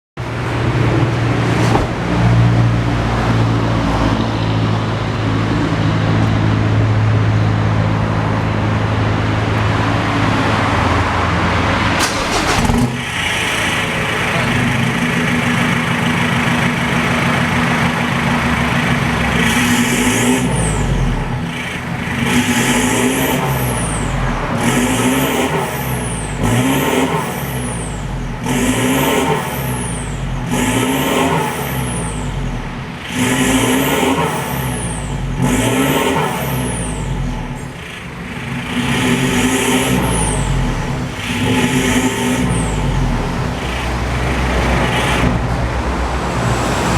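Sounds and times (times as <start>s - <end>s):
diesel engine revving: 0.2s - 46.9s.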